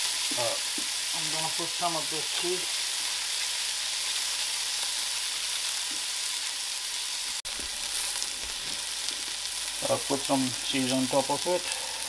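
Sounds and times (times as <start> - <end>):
burgers sizzling in hot oil: 0.0 - 12.0.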